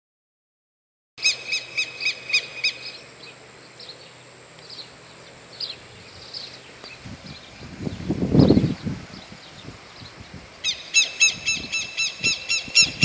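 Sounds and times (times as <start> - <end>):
birds chirping: 1.2 - 13.0
high-pitched insect hum: 1.2 - 13.0.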